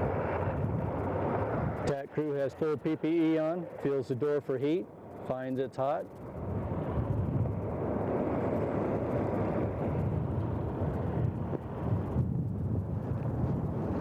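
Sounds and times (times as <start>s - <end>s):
wind on microphone: 0.0s - 4.4s, 5.3s - 14.0s.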